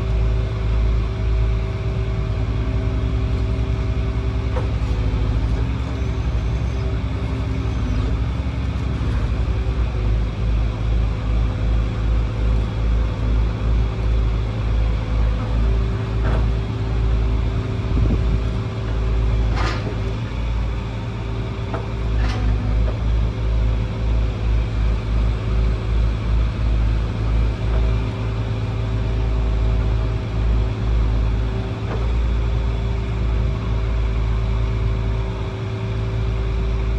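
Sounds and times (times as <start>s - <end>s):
excavator diesel engine rumble: 0.0s - 36.9s.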